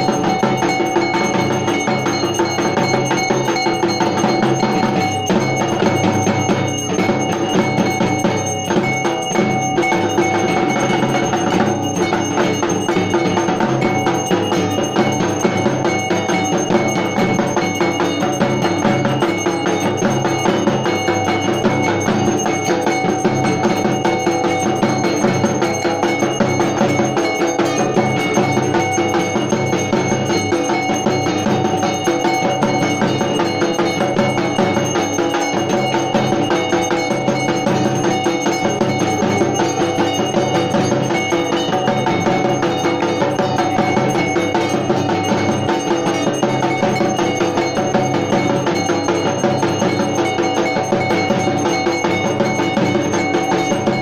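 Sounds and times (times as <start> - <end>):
drums beaten rapidly: 0.0 - 54.0
metal bells ringing: 0.0 - 54.0.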